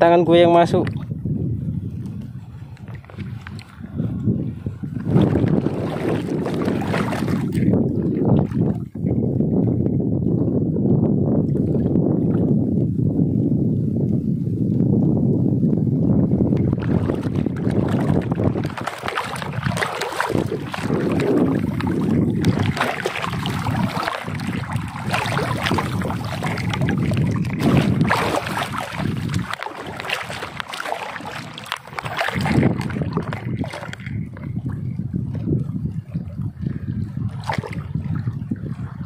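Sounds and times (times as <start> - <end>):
wind buffeting microphone: 0.0 - 39.0
seawater sloshing and splashing: 1.8 - 9.2, 11.4 - 12.8, 16.4 - 39.0.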